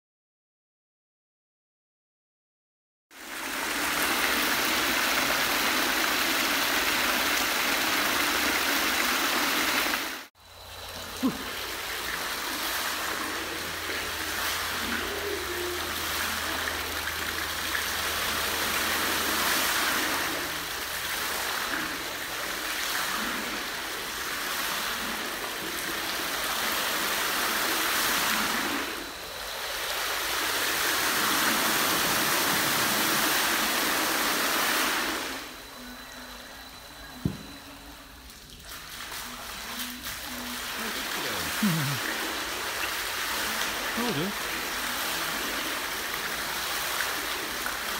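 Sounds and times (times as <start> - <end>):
fountain water splashing: 3.2 - 35.4, 38.5 - 47.9.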